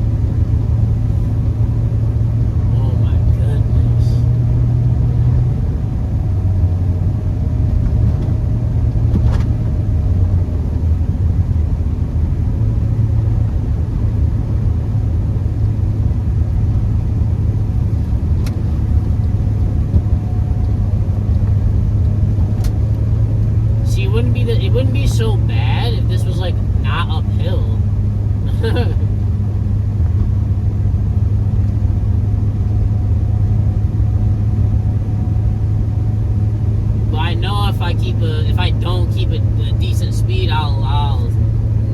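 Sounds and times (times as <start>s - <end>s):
car engine and road drone: 0.0s - 41.9s.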